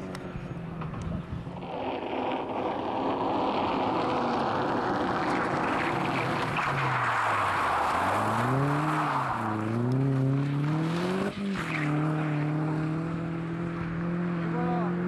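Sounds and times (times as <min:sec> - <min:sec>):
tyre noise on tarmac: 0:00.0 - 0:14.8
car engine accelerating through gears: 0:01.4 - 0:15.0.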